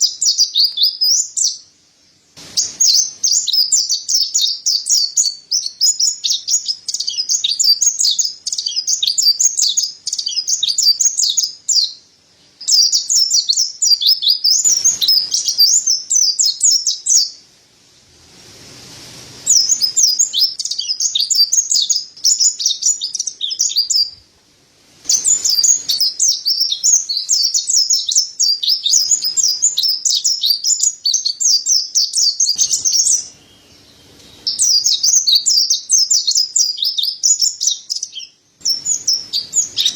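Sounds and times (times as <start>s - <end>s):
bird twittering song: 0.0s - 17.4s, 19.4s - 24.3s, 25.1s - 39.9s.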